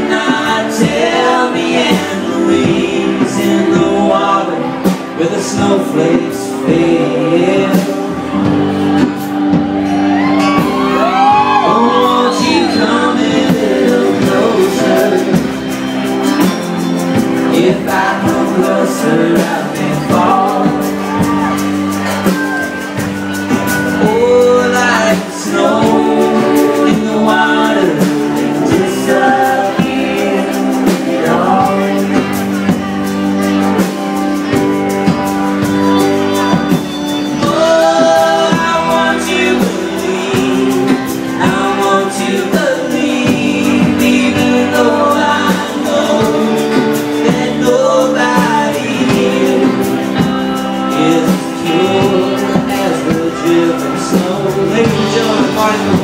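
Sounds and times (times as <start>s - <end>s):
bass: 0.0s - 56.0s
organ: 0.0s - 56.0s.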